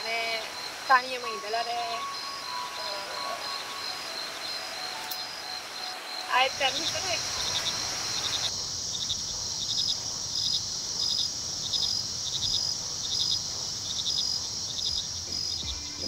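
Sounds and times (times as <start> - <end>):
crickets chirping: 0.0 - 16.0
high-pitched insect buzz: 0.0 - 16.0.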